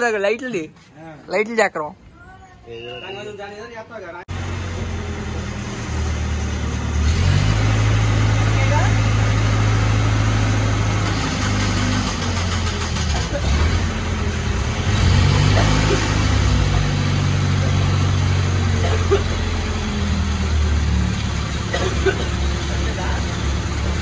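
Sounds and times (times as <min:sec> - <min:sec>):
crane engine running: 0:04.3 - 0:24.0.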